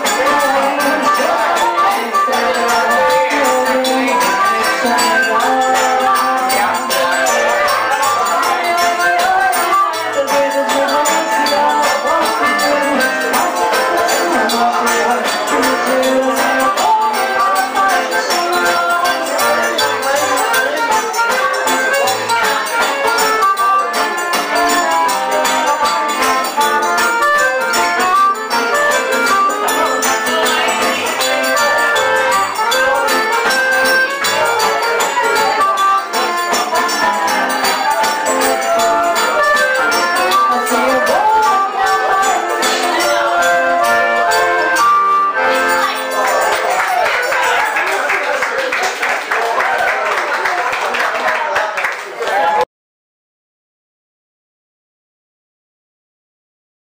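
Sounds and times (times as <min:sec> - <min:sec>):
accordion melody: 0:00.0 - 0:49.6
acoustic guitar: 0:00.0 - 0:49.8
hand percussion: 0:00.0 - 0:50.7.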